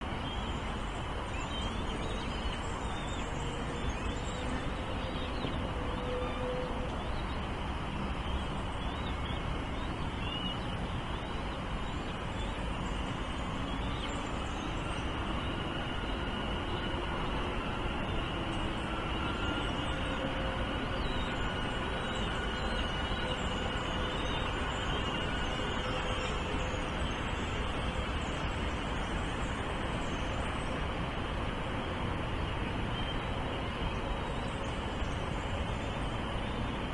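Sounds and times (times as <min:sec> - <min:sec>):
low rumbling background noise: 0:00.0 - 0:36.9
small birds chirping: 0:00.1 - 0:06.0, 0:06.6 - 0:30.6.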